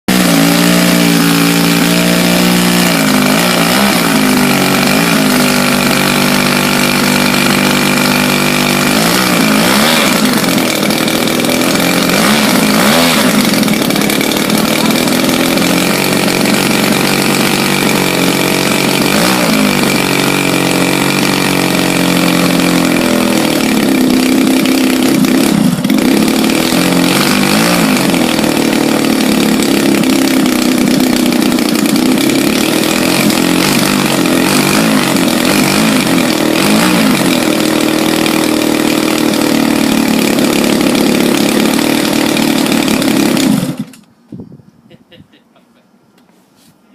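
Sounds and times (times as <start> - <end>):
model plane engine revving: 0.1 - 44.1.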